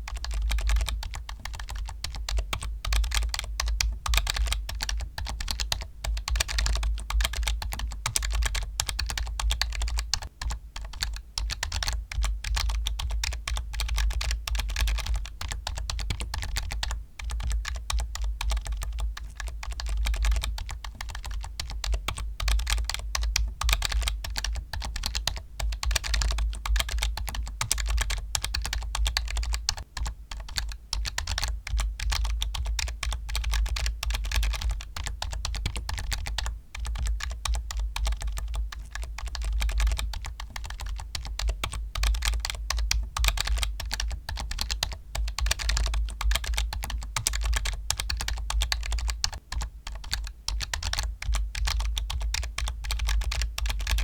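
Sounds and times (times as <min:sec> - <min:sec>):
fast typing on keyboard: 0:00.0 - 0:54.0.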